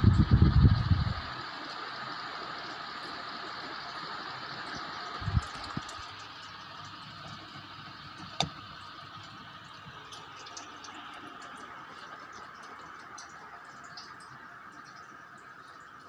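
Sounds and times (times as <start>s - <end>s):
ceiling fan whirring: 0.0s - 16.0s.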